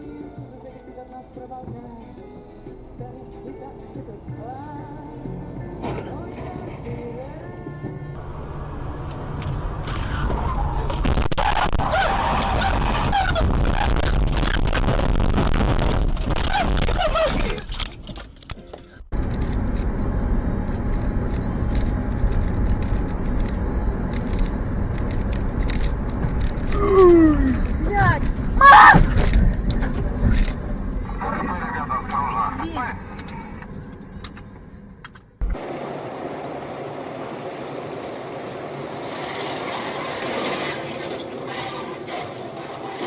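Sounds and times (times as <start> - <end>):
moving car road and engine noise: 0.0 - 43.0
vehicle running noise: 0.0 - 43.0.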